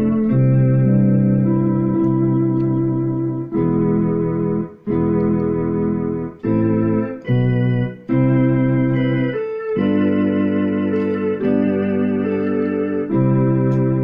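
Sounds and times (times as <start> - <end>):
electronic keyboard organ chords: 0.0 - 14.0.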